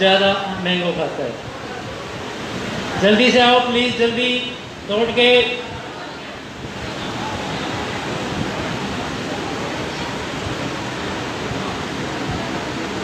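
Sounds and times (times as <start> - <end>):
electric fans blowing: 0.0 - 13.0
faint voices: 0.0 - 13.0.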